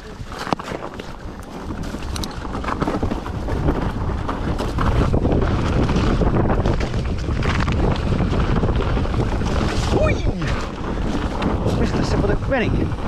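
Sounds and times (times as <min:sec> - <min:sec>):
bike tyres clattering on rock: 0:00.0 - 0:13.0
wind buffeting microphone: 0:00.0 - 0:13.0.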